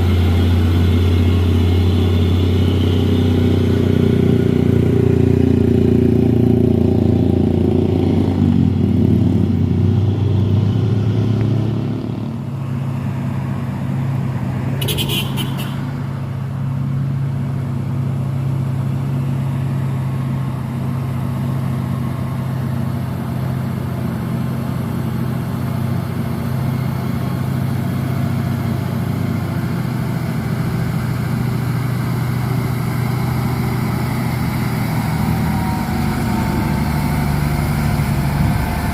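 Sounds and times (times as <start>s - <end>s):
diesel truck engine under load: 0.0s - 38.9s.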